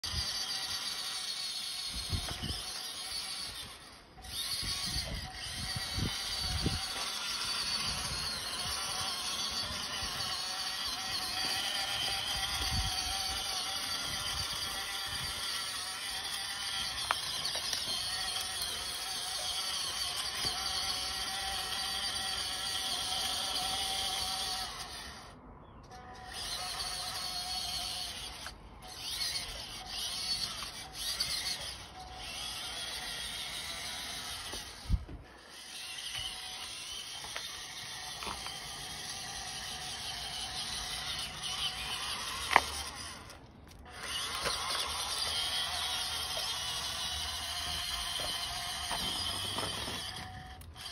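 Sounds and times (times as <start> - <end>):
model truck motor whining: 0.0 - 50.9.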